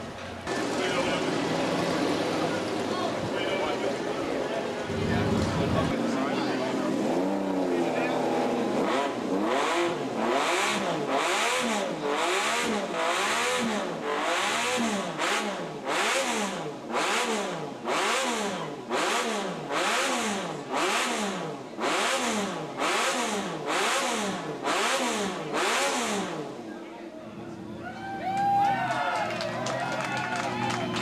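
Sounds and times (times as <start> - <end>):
motorcycle engine revving: 0.0 - 26.8.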